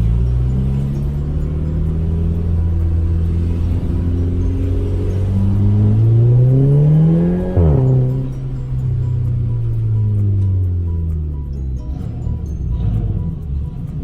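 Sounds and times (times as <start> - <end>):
car engine exhaust drone: 0.0 - 14.0.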